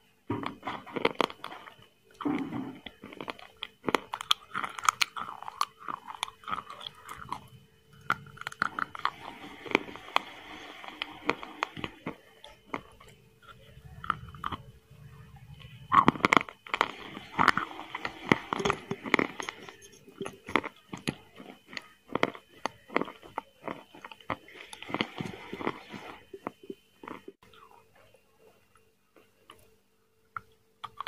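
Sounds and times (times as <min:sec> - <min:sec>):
person chewing wet food: 0:00.0 - 0:31.0.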